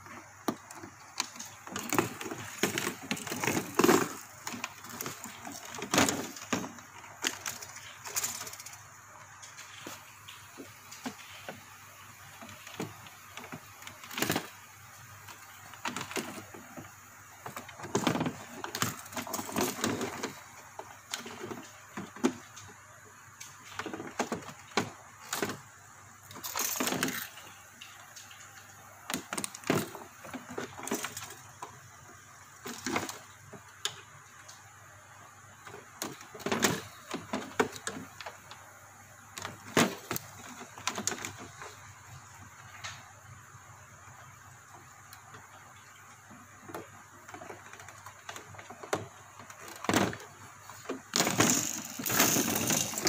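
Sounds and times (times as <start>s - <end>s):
rustling wires: 0.0s - 53.0s.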